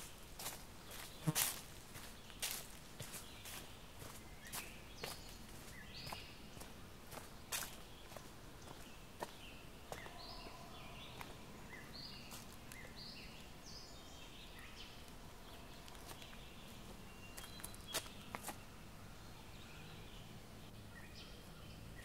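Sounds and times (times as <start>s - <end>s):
small songbirds singing: 0.0s - 22.0s.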